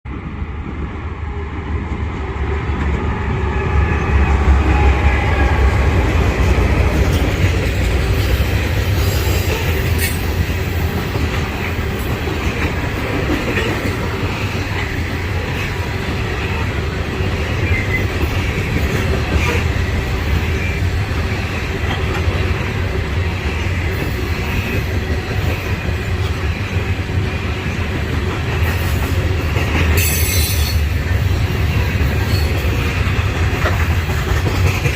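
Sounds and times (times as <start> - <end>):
diesel locomotive rumble: 0.1 - 34.9
freight cars rolling on rails: 0.1 - 34.9.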